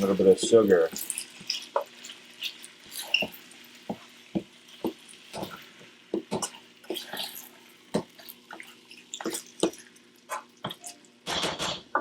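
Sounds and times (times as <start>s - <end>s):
chicken frying in oil: 0.0s - 12.0s
oil crackling and popping: 0.0s - 12.0s.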